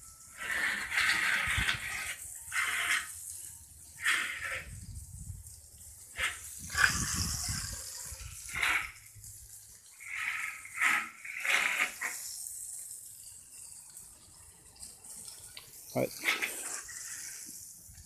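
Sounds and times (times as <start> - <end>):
hose nozzle spraying water: 0.1 - 18.0.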